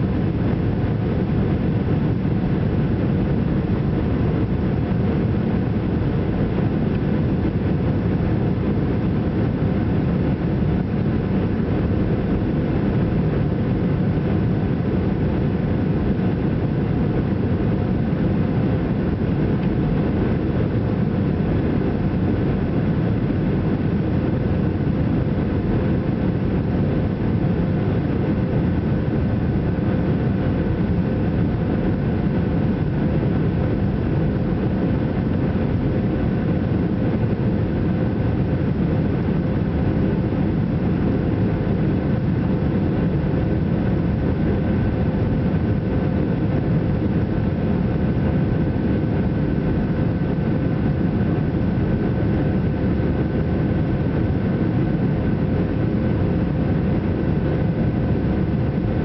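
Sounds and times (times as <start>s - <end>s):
jet engines at climb power: 0.0s - 59.0s.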